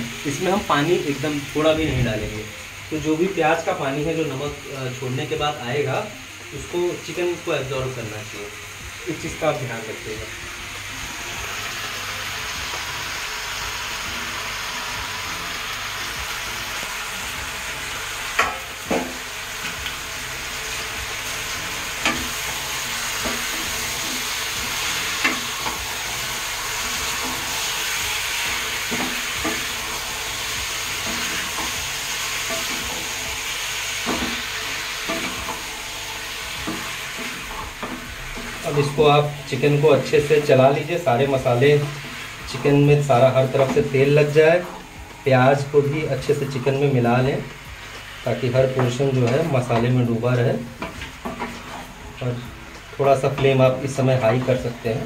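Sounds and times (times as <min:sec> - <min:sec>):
chicken and onions sizzling in oil: 0:00.0 - 0:55.0.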